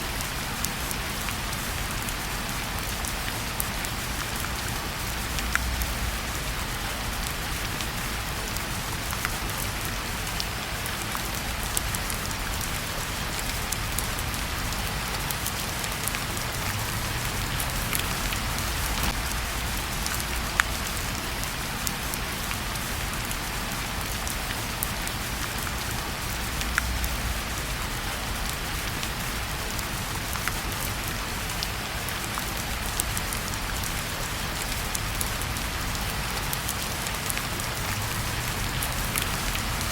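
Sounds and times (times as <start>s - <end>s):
fire crackling in a fireplace: 0.0s - 39.9s
rain falling: 0.0s - 39.9s.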